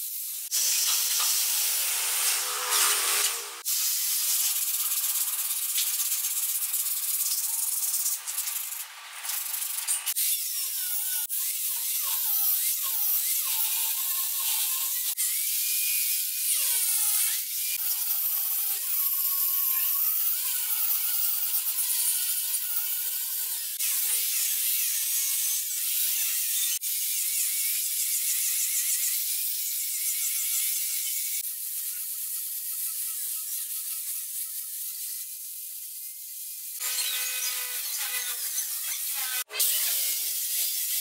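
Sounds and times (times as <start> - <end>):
angle grinder sanding wood: 0.1 - 27.4, 28.1 - 41.0.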